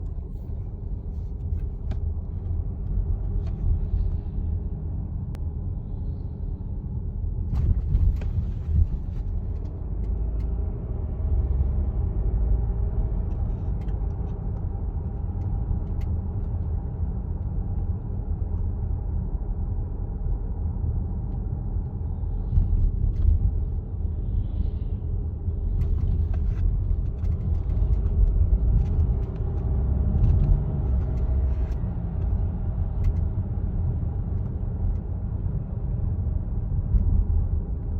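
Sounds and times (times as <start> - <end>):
car engine low rumble: 0.0 - 37.9.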